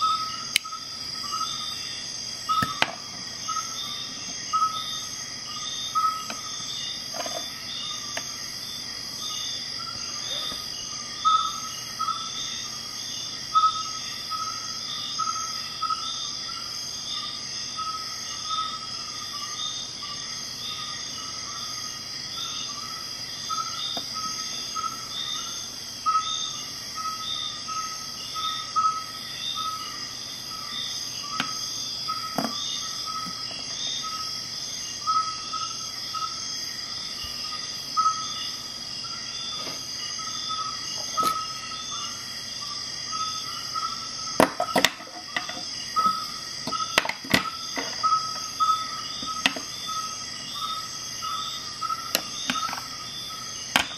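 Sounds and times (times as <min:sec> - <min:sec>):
insect chirping: 0:00.0 - 0:53.9.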